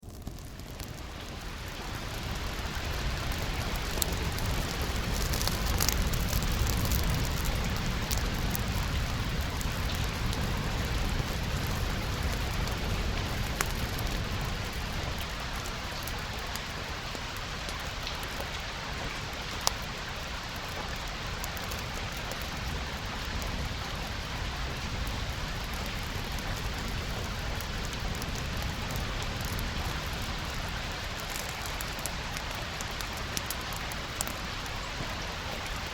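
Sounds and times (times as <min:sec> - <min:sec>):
steady rain falling: 0:00.0 - 0:35.9
wood fire crackling and popping: 0:00.0 - 0:35.9.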